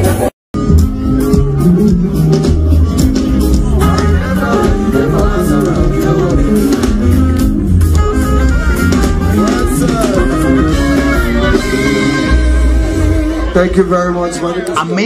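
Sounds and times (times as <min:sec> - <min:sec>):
heavy bass line: 0:00.0 - 0:14.3
drums: 0:00.0 - 0:15.0
guitar: 0:00.0 - 0:15.0.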